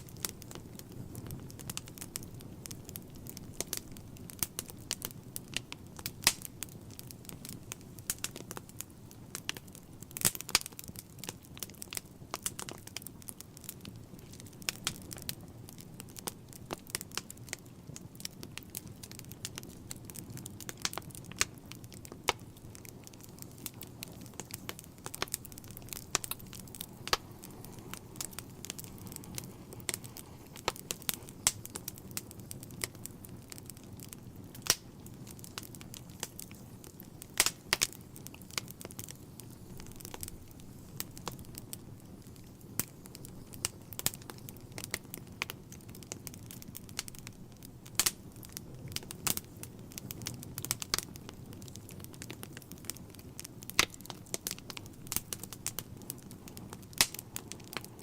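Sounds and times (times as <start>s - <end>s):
fire crackling and popping: 0.0s - 58.0s
low rumble of fire: 0.0s - 58.0s.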